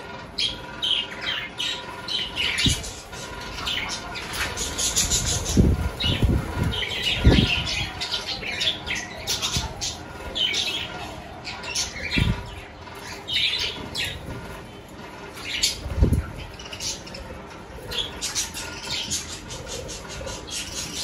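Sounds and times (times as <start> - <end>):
budgerigars chattering: 0.4 - 14.4, 15.4 - 21.0.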